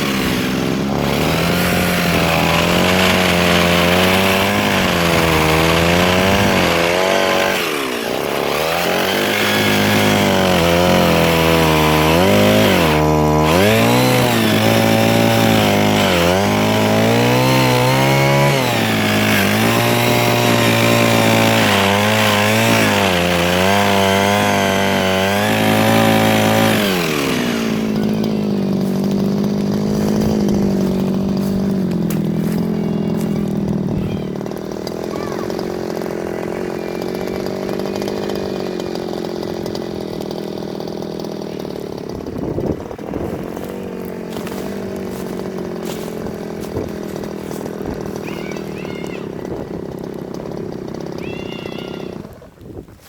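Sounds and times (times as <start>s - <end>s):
mini chainsaw cutting wood: 0.0s - 53.0s.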